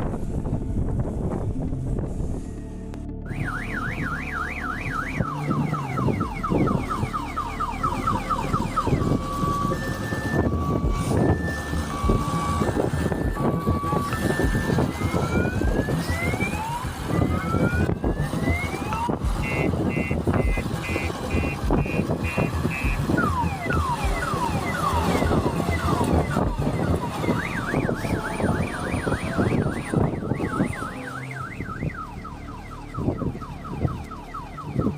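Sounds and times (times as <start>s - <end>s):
electronic alarm siren: 3.3s - 34.9s.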